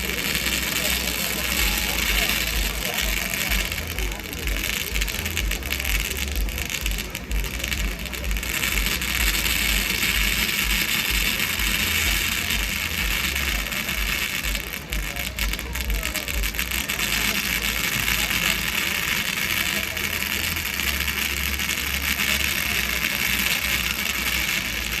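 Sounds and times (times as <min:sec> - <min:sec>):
firework fountains hissing: 0:00.0 - 0:25.0.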